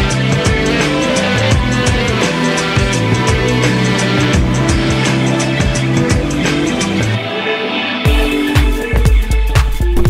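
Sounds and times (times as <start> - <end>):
rock music with drums: 0.0 - 10.0.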